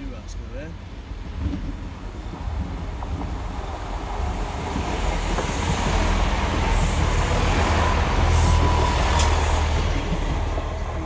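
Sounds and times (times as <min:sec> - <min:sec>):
train engine and wheels rumbling: 0:00.0 - 0:11.0.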